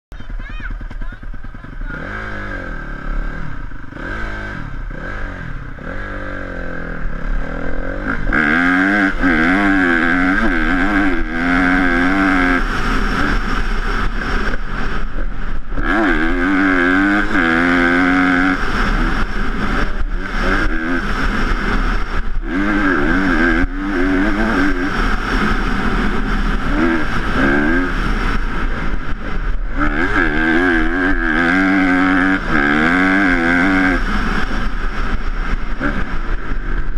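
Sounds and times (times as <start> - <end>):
dirt bike engine revving: 0.2 - 36.9.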